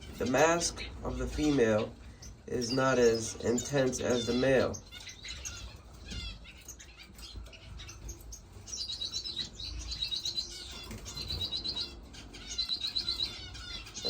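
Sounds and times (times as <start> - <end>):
finches chirping: 0.0 - 14.0.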